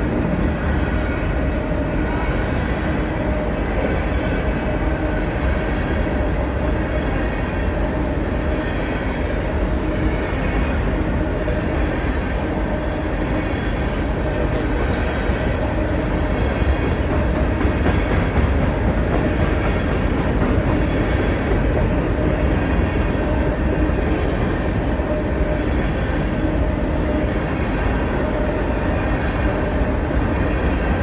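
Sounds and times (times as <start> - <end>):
rail noise: 0.0 - 31.0
train rumbling past: 0.0 - 31.0.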